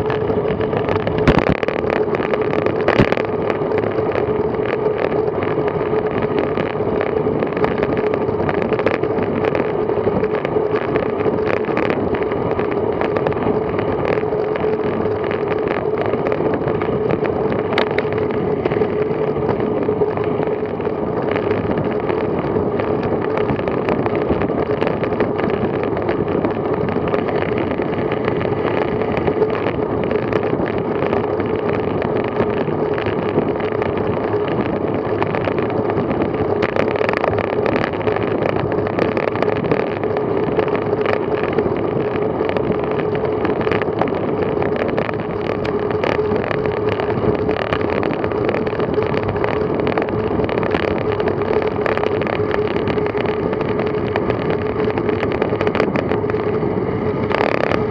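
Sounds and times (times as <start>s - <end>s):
bicycle tyre noise: 0.0s - 57.9s
constant hum: 0.0s - 57.9s
small ticks from road: 0.0s - 57.9s
wind on microphone: 0.0s - 57.9s.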